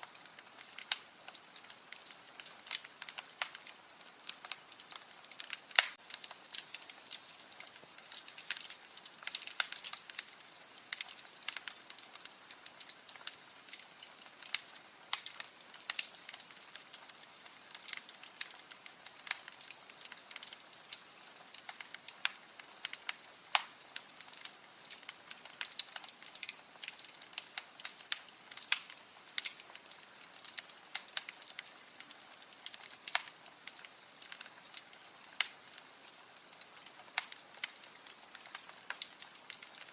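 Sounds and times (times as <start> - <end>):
fire crackling and popping: 0.0 - 39.9
soft steady hiss: 0.0 - 39.9.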